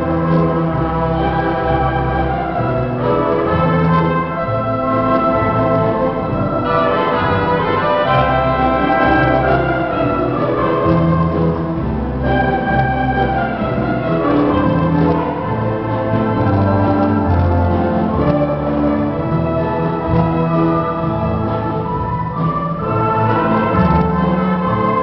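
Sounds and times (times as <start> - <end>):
orchestra playing held chords: 0.0 - 25.0.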